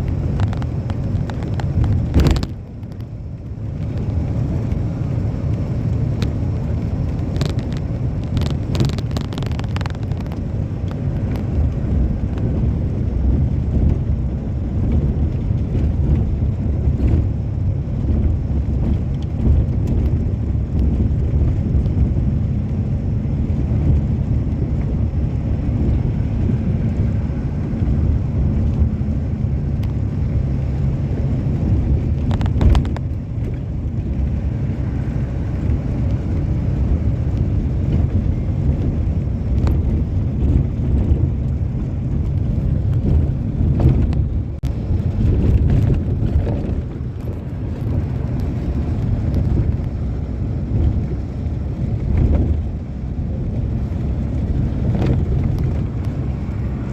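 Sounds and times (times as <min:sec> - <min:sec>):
train rumbling: 0:00.0 - 0:56.9.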